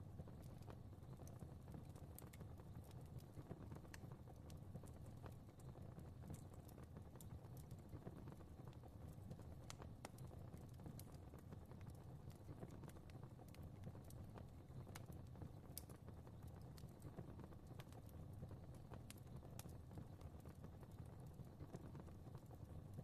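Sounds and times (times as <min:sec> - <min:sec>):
fire crackling: 0:00.0 - 0:23.0
low rumble of flames: 0:00.0 - 0:23.0.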